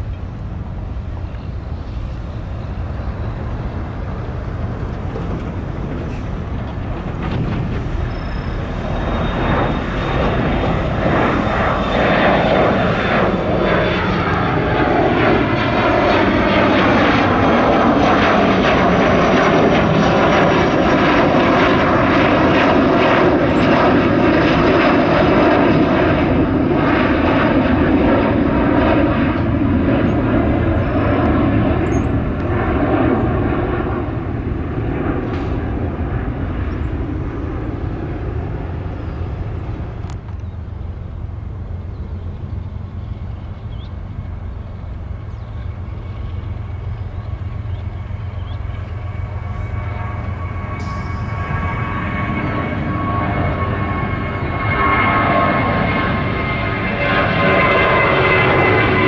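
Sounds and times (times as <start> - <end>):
jet engines roaring past: 0.0 - 59.0.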